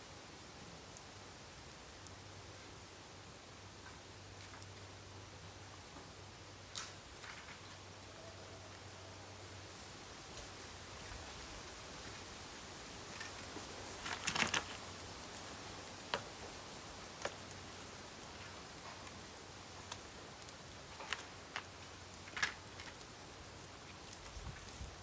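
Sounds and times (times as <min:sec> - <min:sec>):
faint steady hiss: 0:00.0 - 0:25.0
burning bamboo popping and crackling: 0:00.2 - 0:08.0, 0:09.5 - 0:25.0.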